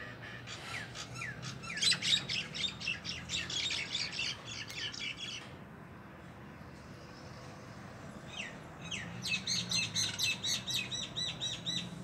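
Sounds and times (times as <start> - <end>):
birds chirping: 0.0 - 5.6, 6.5 - 12.0.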